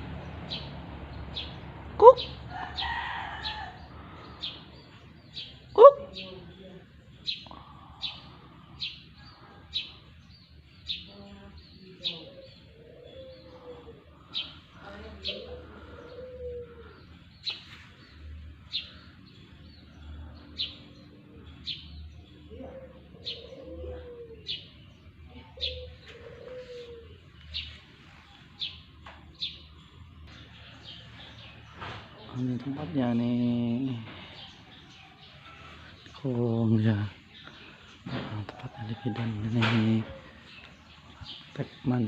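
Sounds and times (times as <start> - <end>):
bird chirping: 0.2 - 42.0.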